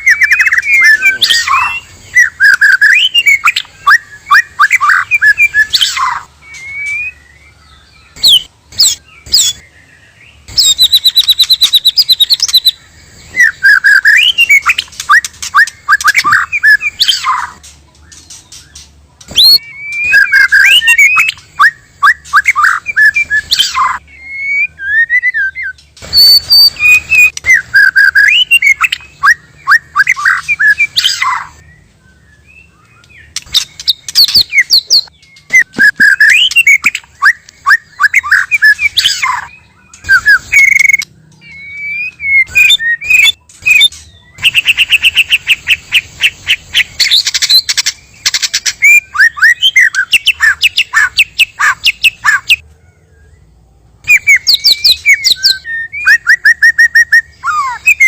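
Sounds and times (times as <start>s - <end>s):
bird song with whistles and trills: 0.0s - 58.0s.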